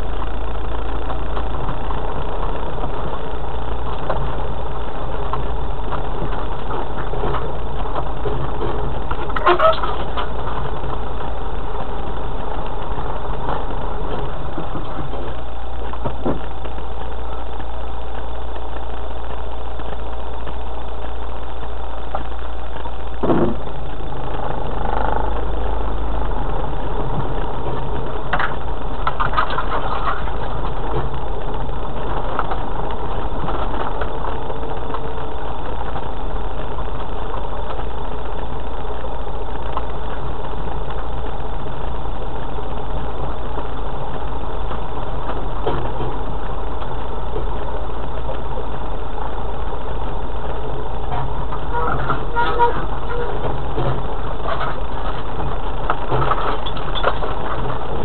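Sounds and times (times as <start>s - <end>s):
vehicle knocks and rattles: 0.0s - 20.1s, 22.1s - 58.0s
vehicle engine low drone: 0.0s - 58.0s.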